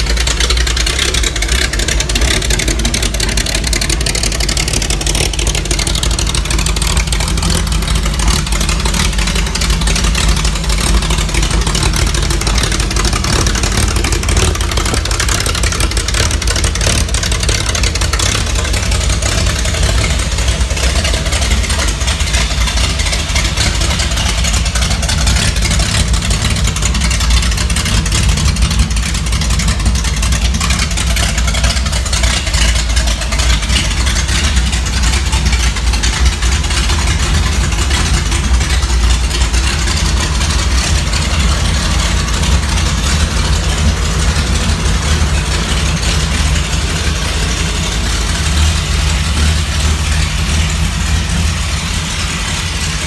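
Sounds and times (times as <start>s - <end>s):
car engine idling loudly: 0.0s - 53.0s.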